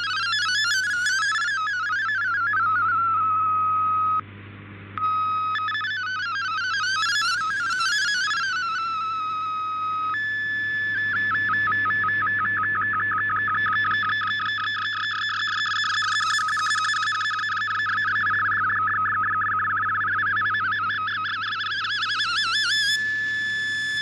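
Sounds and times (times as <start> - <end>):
digital radio signal warbling tones: 0.0 - 4.2, 5.0 - 24.0.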